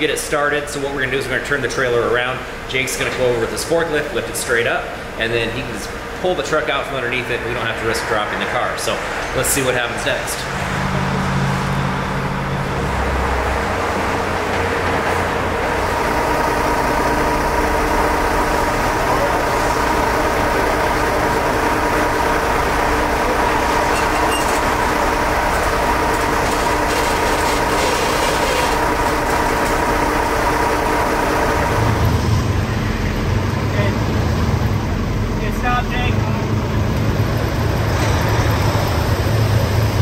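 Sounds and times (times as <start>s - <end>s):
large engine running: 0.0s - 40.0s
steady hum: 0.0s - 40.0s.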